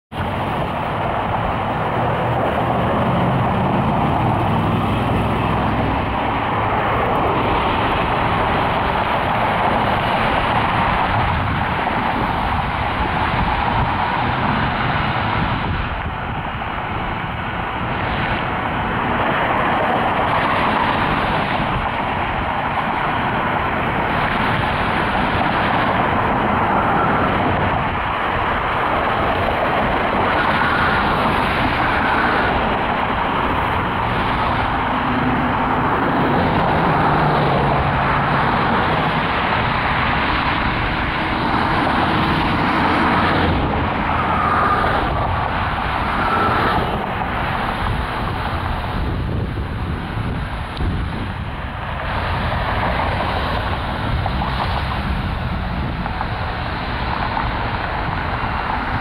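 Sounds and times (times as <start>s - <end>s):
cars going by: 0.1s - 59.0s.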